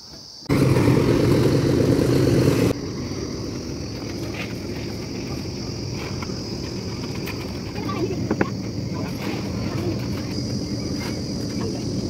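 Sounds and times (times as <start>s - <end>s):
insects chirring: 0.0s - 12.0s
concrete mixer engine running: 0.5s - 12.0s.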